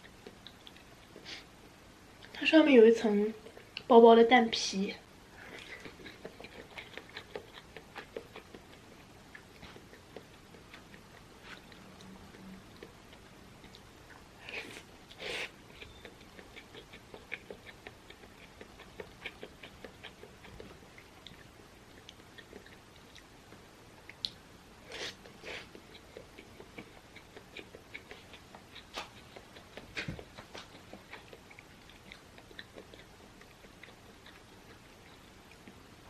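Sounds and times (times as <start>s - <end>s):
chewing with wet mouth clicks: 0.0s - 1.2s, 5.4s - 35.9s
louder eating sounds: 5.4s - 36.0s.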